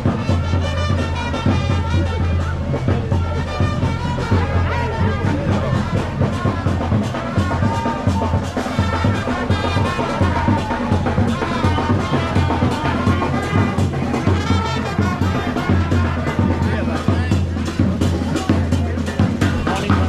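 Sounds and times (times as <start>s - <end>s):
brass band music: 0.0s - 20.0s
steady drum beat: 0.0s - 20.0s
trumpets: 0.0s - 20.0s.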